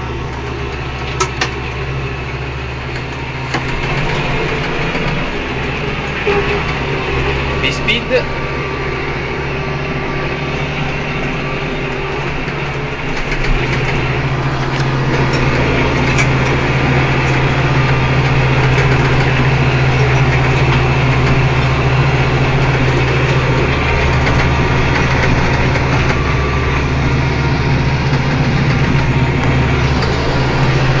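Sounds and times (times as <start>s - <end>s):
flail mower working: 0.0s - 31.0s
tractor diesel engine running: 0.0s - 31.0s.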